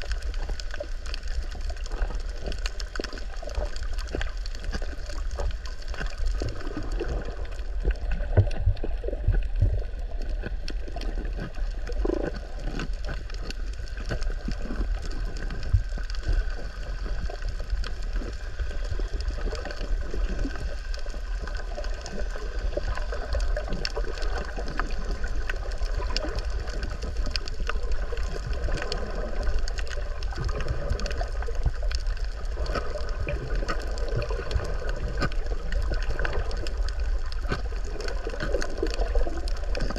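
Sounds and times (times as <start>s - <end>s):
muffled underwater rumble: 0.0s - 39.9s
small clicks and crackles: 0.0s - 39.9s.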